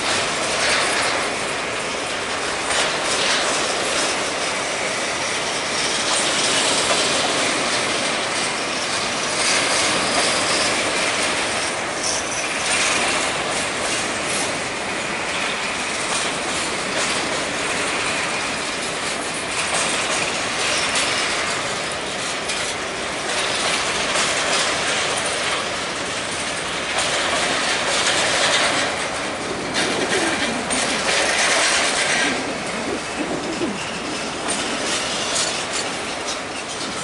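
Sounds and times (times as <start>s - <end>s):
freight train rumble and rattle: 0.0s - 37.0s
wheels clicking over rail joints: 0.0s - 37.0s.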